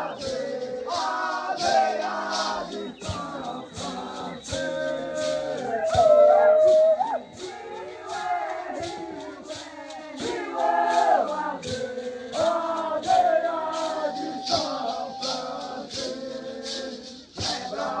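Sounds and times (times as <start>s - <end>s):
shaker rattling a beat: 0.0s - 18.0s
voices chanting together: 0.0s - 18.0s.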